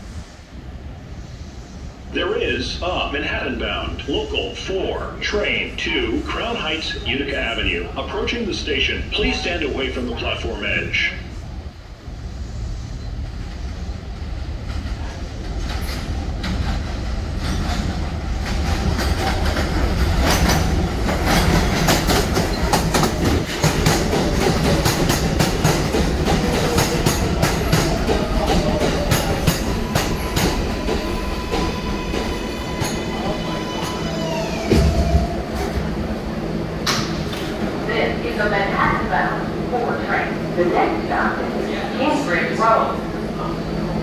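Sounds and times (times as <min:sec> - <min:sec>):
subway train rumble: 0:00.0 - 0:44.0.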